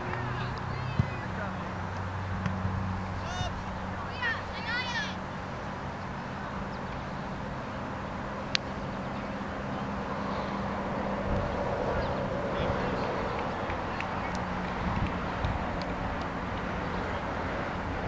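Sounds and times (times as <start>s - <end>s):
distant rumble: 0.0s - 18.0s.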